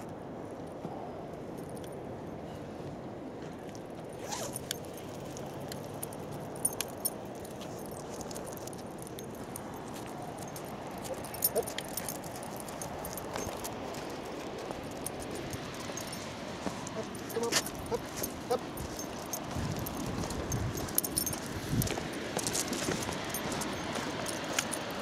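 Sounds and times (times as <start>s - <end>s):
low outdoor noise: 0.0s - 25.0s
metallic clinks and jingles: 4.1s - 25.0s.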